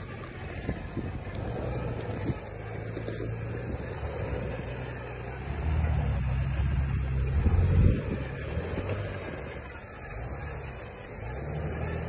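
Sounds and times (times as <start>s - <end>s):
off-road vehicle engine under load: 0.0s - 12.0s.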